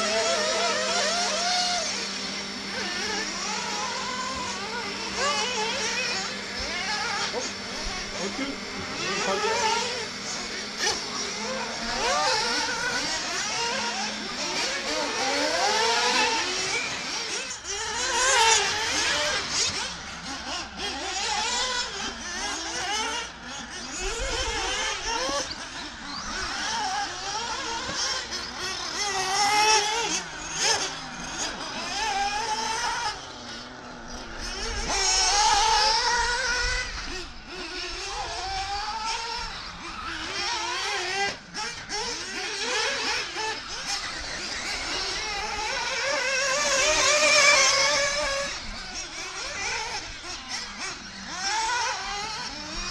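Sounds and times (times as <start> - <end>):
rc car engines revving: 0.0 - 52.9.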